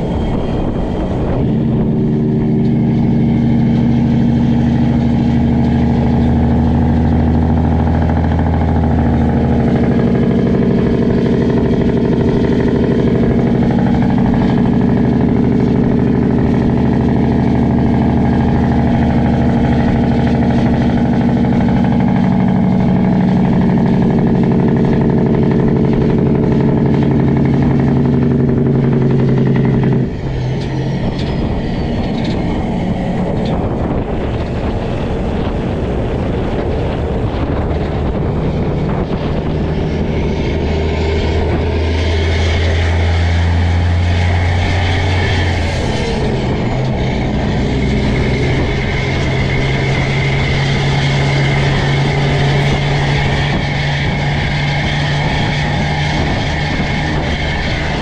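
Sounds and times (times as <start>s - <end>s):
diesel truck engine running: 0.0s - 58.0s
road and wind noise: 0.0s - 58.0s.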